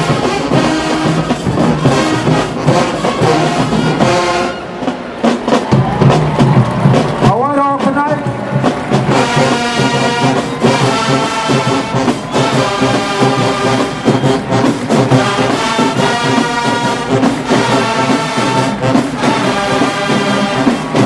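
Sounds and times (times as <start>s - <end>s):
marching brass band: 0.0s - 21.0s.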